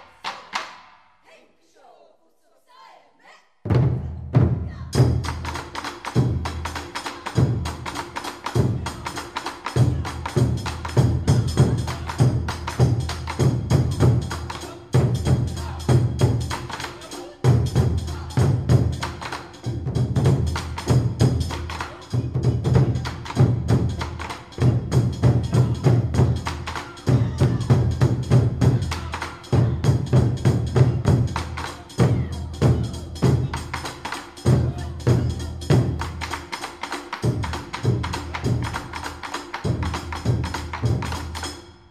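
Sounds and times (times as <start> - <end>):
clicking percussion beat: 5.0 - 41.8.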